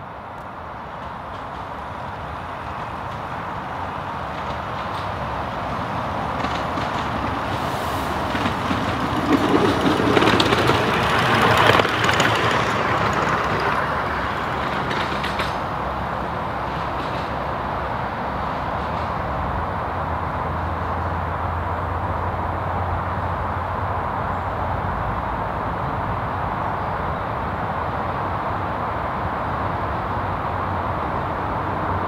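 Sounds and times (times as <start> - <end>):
miniature steam locomotive passing: 0.0 - 32.0.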